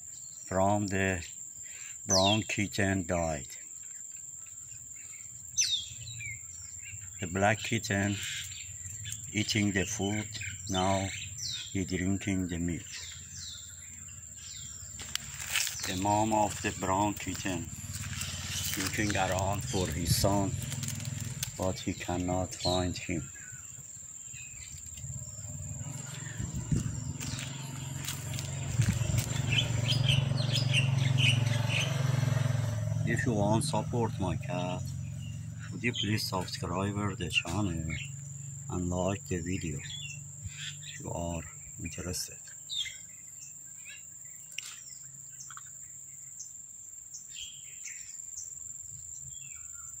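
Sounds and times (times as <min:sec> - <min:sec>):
bird chirps: 0:00.0 - 0:50.0
insects droning: 0:00.0 - 0:50.0.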